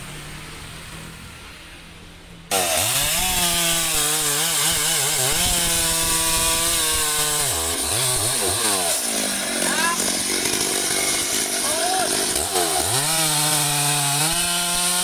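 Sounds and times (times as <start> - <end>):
chainsaw cutting wood: 2.5 - 15.0.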